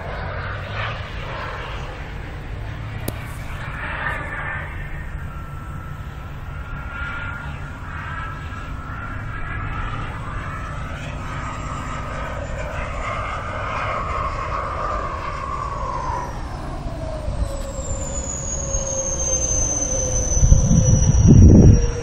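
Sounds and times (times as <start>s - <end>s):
model jet engine whining: 0.0s - 22.0s.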